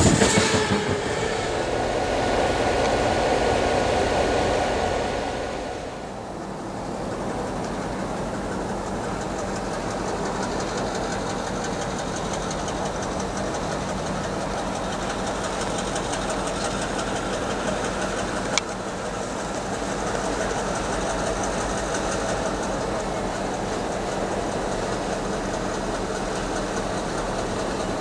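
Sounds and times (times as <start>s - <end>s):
locomotive engine running: 0.0s - 28.0s.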